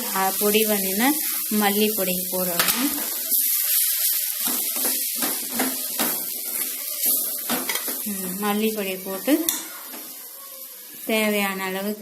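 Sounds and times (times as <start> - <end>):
leaves sizzling in oil: 0.0 - 12.0.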